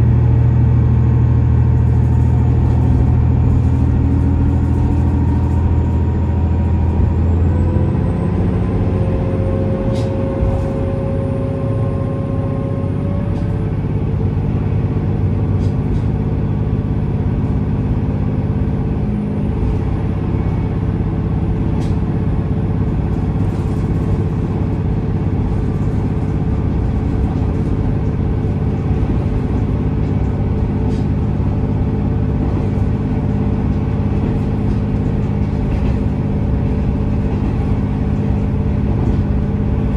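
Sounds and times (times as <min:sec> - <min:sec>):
diesel train engine drone: 0:00.0 - 0:39.9.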